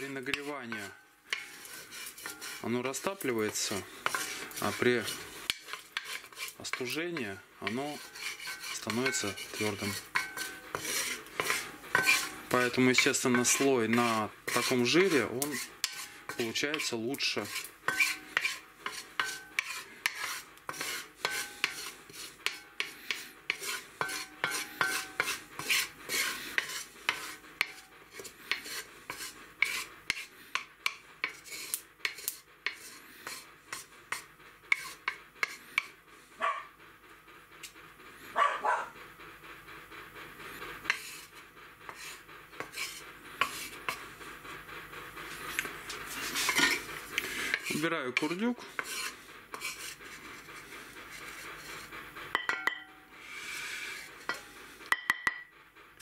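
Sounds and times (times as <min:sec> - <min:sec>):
wooden spatula scraping iron pot: 0:00.0 - 0:36.4, 0:40.2 - 0:56.0.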